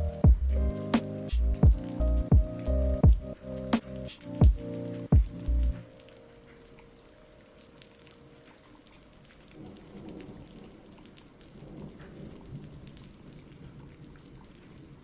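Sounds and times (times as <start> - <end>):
steady rain: 0.0 - 15.0
raindrops hitting a surface: 0.1 - 15.0.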